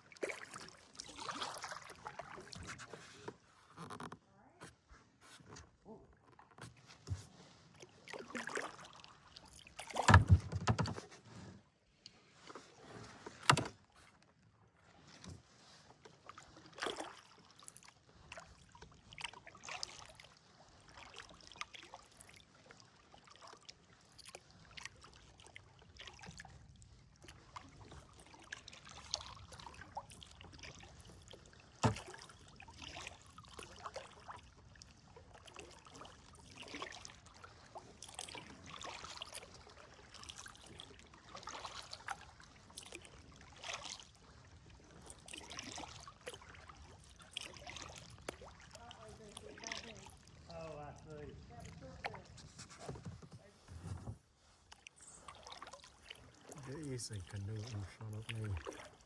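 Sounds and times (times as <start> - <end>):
paddle splashing water: 0.0 - 59.0.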